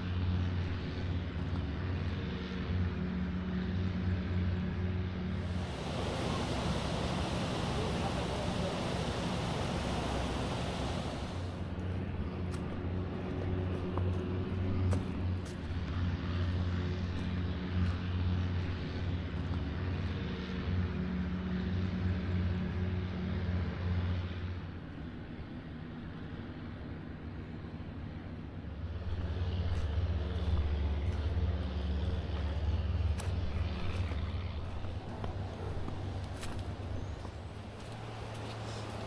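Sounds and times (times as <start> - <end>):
engine droning: 0.0 - 39.0.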